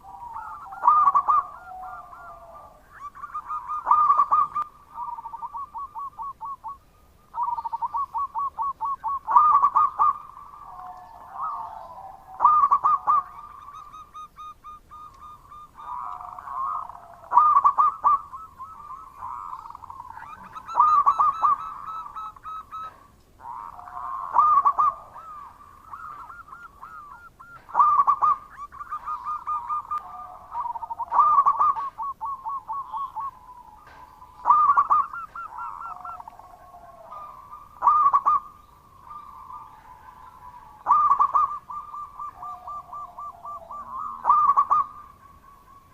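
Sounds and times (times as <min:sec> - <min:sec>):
dove trilling coos: 0:00.0 - 0:45.9.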